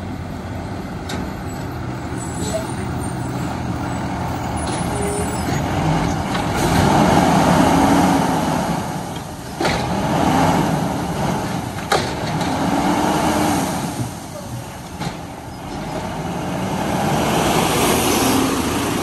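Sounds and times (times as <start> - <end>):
garbage truck engine revving: 1.7 - 19.0.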